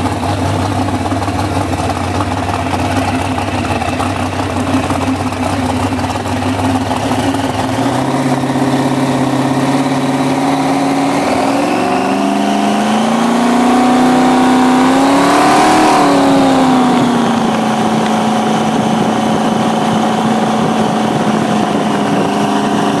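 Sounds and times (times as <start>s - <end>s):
boat engine revving: 0.0s - 23.0s.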